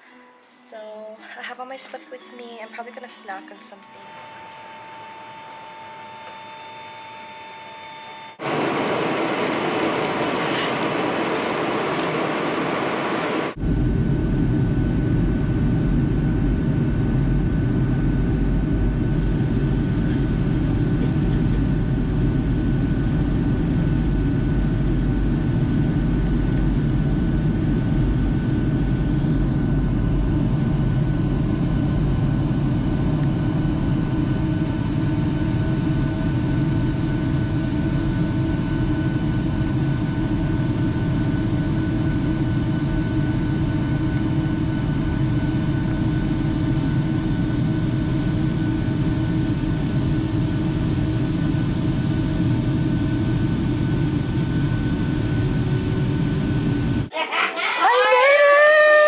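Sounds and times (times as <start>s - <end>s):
faint steady whines: 2.9s - 57.1s
jet cabin low rumble: 8.4s - 57.1s.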